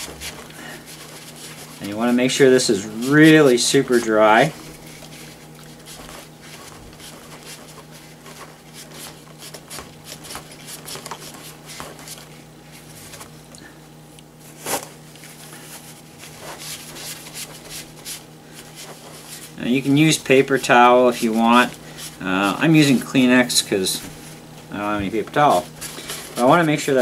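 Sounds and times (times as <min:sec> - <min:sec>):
tissue rubbing on plastic: 0:00.0 - 0:13.4, 0:14.4 - 0:27.0
steady low hum: 0:00.0 - 0:27.0.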